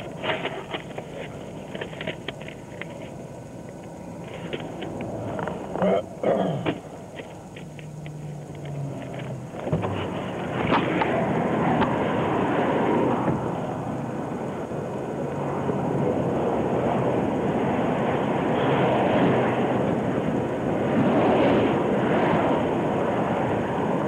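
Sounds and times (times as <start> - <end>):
highway traffic rushing: 0.0 - 24.0.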